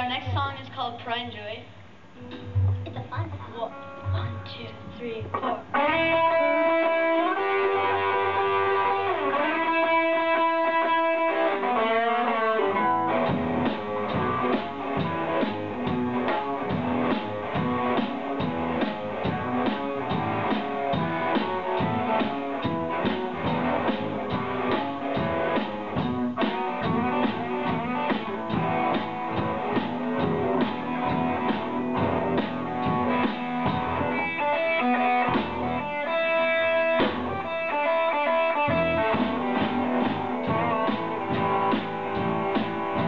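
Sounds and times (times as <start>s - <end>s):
lead guitar line: 2.2s - 43.0s
live rock band playing: 2.2s - 43.0s.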